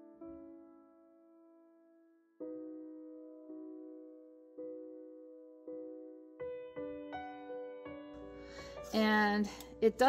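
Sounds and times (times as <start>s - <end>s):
soft piano chord: 0.0s - 10.0s.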